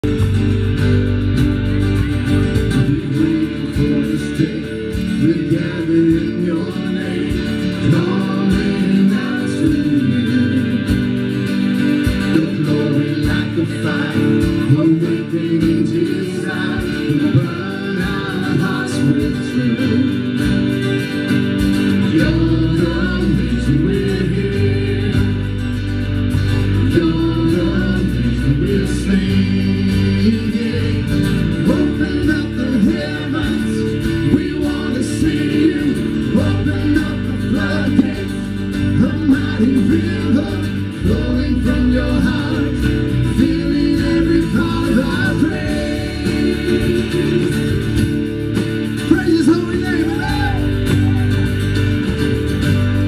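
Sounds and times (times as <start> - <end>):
worship band playing: 0.0 - 53.0
people singing together: 2.6 - 51.4.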